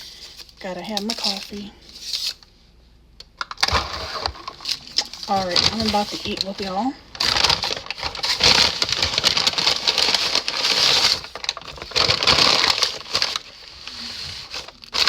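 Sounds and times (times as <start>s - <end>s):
paper wrapping crinkling: 0.0s - 2.5s, 3.6s - 15.0s.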